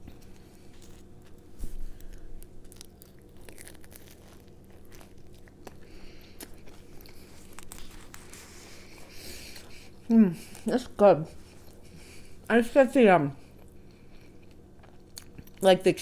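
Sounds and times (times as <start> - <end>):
chewing and biting food: 0.0 - 10.8, 13.4 - 15.6.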